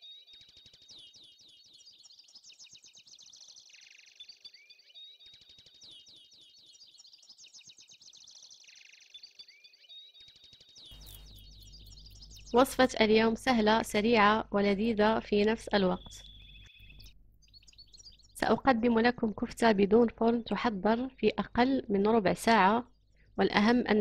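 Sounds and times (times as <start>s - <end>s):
faint birdsong chirps: 0.0s - 24.0s.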